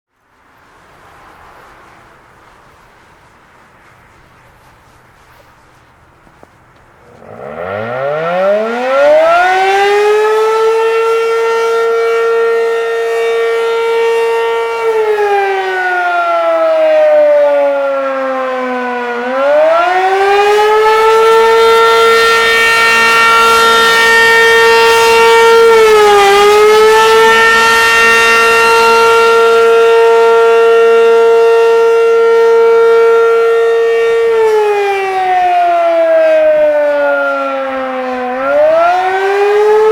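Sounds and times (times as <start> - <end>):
warning siren rising and falling: 6.9 - 39.9.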